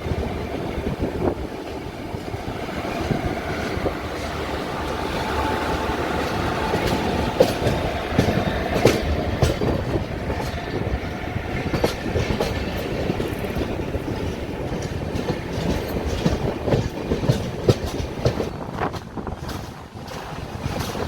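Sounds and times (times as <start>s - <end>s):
train coaches rumbling on rails: 0.0s - 21.0s
wheels clacking over rail joints: 0.1s - 21.0s.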